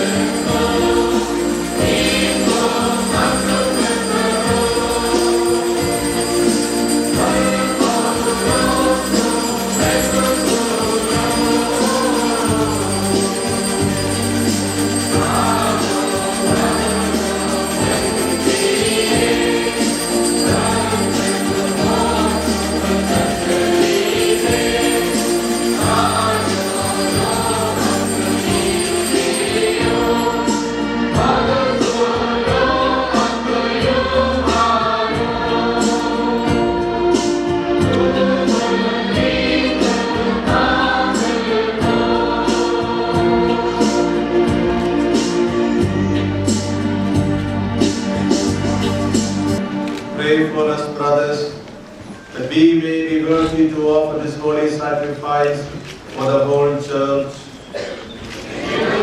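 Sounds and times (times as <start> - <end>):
choir singing a hymn: 0.0 - 49.7, 57.8 - 59.0
instrumental accompaniment: 0.0 - 52.3.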